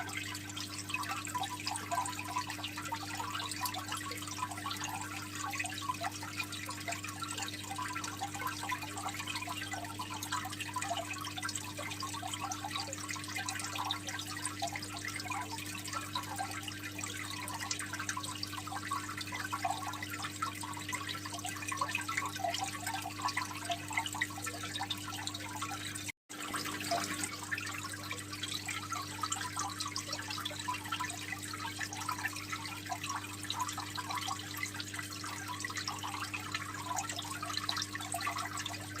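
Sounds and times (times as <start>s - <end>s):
aquarium water trickling: 0.0s - 39.0s.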